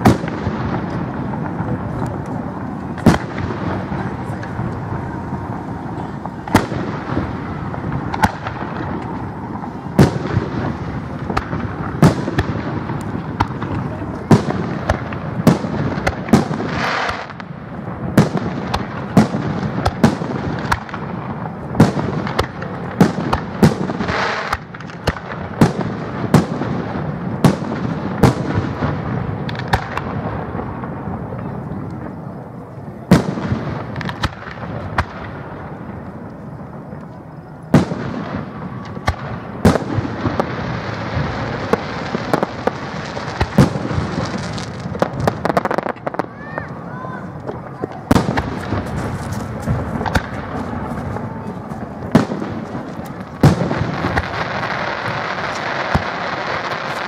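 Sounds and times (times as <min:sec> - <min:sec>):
firework shells booming: 0:00.0 - 0:57.0.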